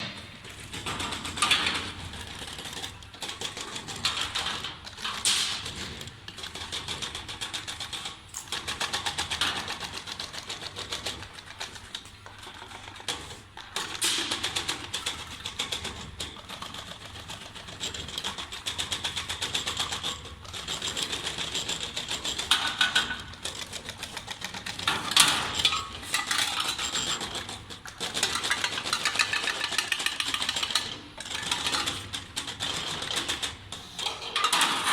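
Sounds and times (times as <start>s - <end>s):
bending machine rattling clicks: 0.0s - 34.9s.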